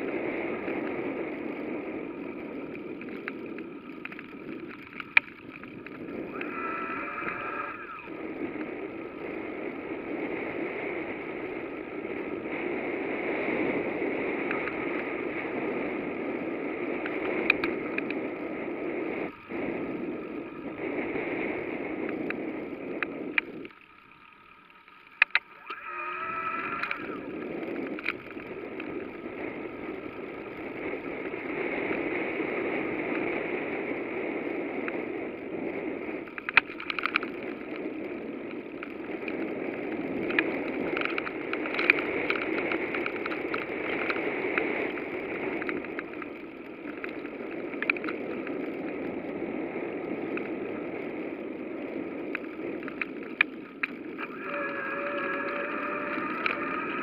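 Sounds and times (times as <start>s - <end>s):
bicycle tyre noise: 0.0s - 57.0s
wind on microphone: 0.0s - 57.0s.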